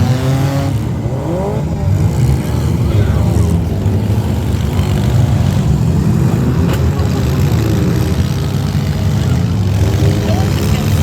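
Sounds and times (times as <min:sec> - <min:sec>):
engines running in loud low rumble: 0:00.0 - 0:11.0.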